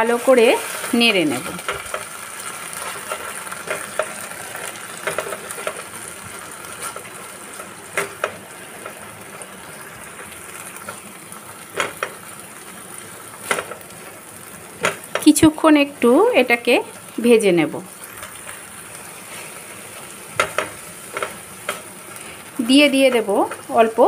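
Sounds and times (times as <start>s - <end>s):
seed paste sizzling in oil: 0.0s - 24.0s.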